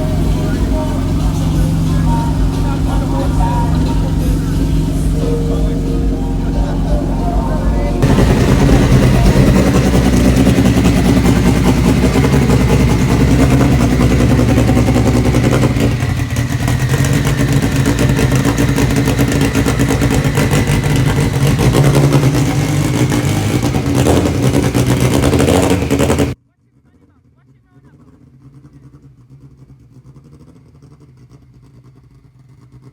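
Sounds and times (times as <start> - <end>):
motor vehicle engine running: 0.0 - 32.9.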